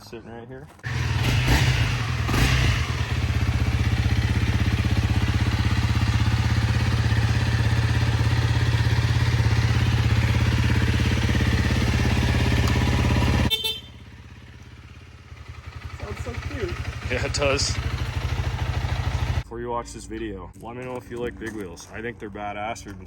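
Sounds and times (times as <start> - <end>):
motorcycle engine idling: 0.8 - 19.5.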